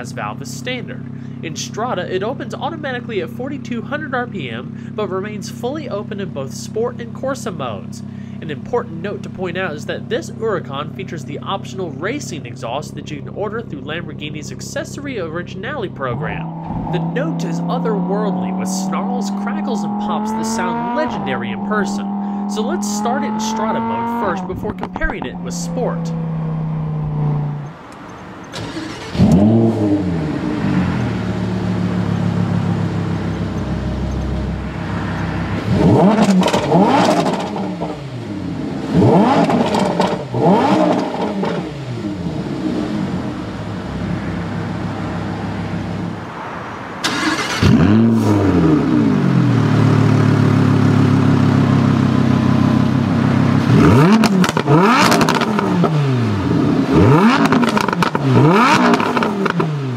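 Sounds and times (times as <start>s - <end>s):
sports car engine revving: 0.9s - 46.3s, 47.0s - 59.9s.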